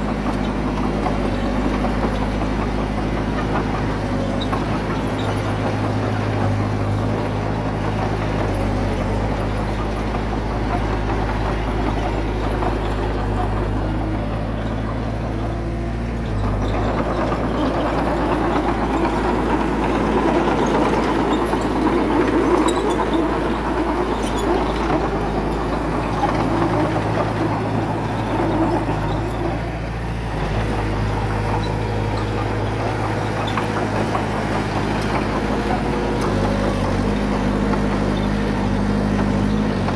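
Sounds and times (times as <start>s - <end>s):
heavy diesel engine running: 0.0s - 39.9s
louder rough engine sound: 0.0s - 39.9s.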